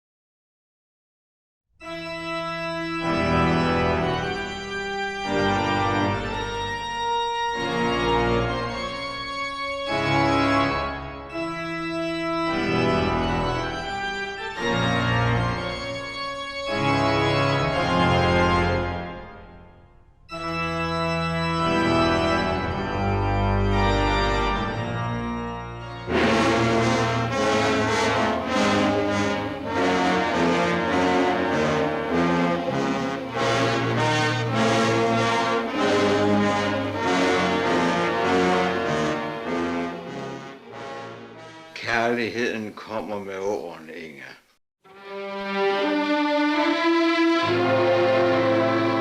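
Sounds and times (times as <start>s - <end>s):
pipe organ chords: 1.8s - 43.4s, 44.9s - 49.0s.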